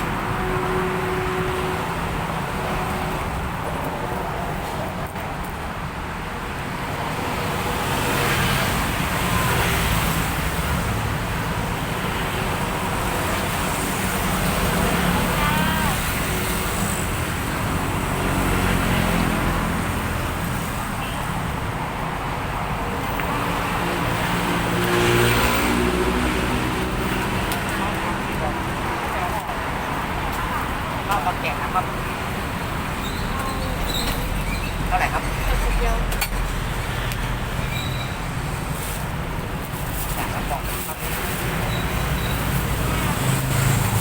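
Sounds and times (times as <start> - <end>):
cars and motorbikes passing: 0.0 - 44.0.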